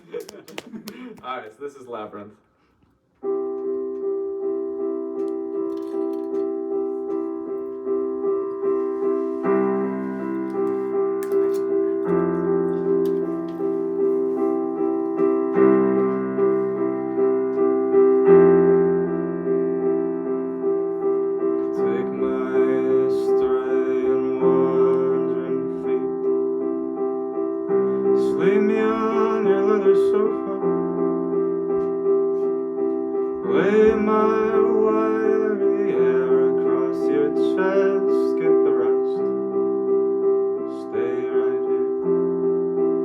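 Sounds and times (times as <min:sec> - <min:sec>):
slow piano chords: 0:03.2 - 0:43.0.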